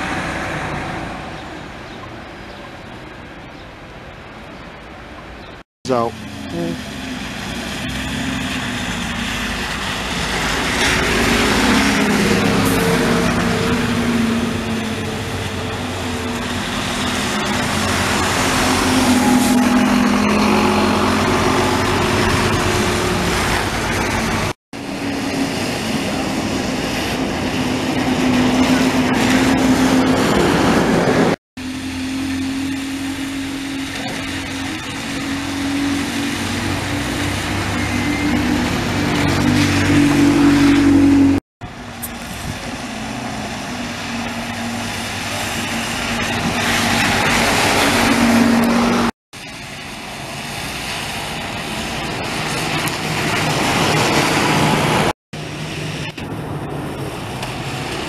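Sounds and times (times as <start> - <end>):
diesel buses pulling past: 0.0 - 58.0
road noise: 0.0 - 58.0.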